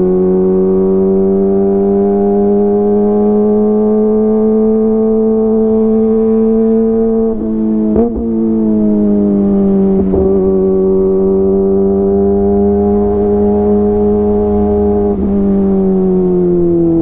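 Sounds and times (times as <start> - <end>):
motorcycle engine high-pitched drone: 0.0 - 17.0.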